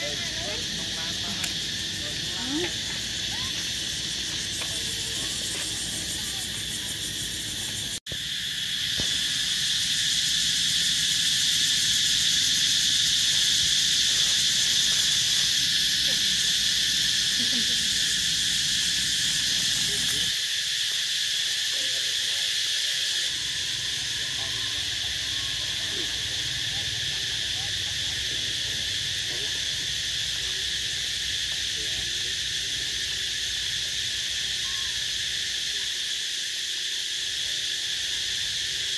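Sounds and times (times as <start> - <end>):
insects shrilling: 0.0 - 38.9.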